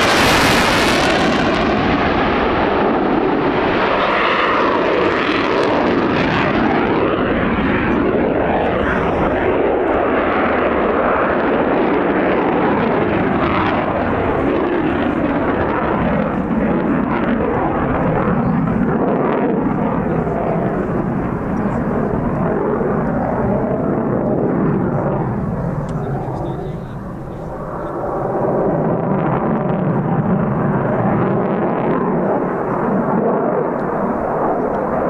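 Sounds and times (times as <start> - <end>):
aircraft flying past: 0.0 - 35.0.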